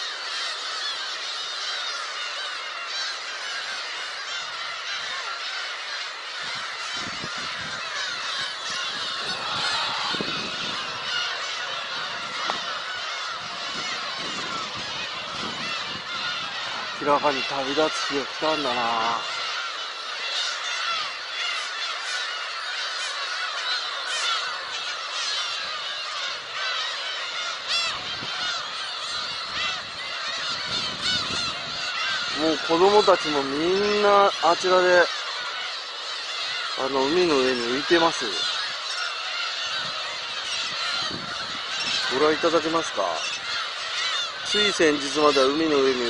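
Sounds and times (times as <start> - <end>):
gulls calling in chorus: 0.0 - 46.0.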